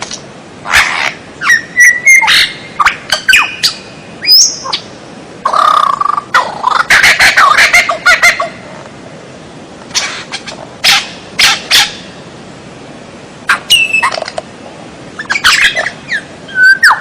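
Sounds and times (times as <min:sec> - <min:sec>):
songbird singing: 0:00.0 - 0:12.4, 0:13.4 - 0:17.0.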